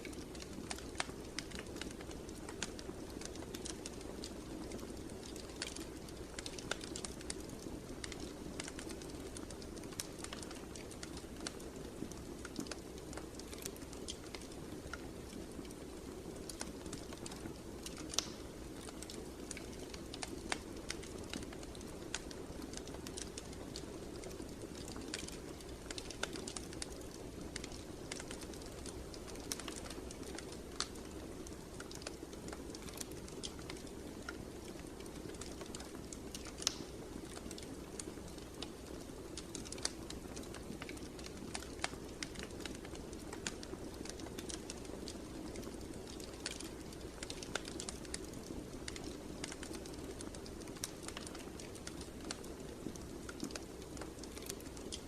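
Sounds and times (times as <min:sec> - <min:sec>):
low noise of flames: 0:00.0 - 0:55.0
wood fire crackling and popping: 0:00.0 - 0:55.0.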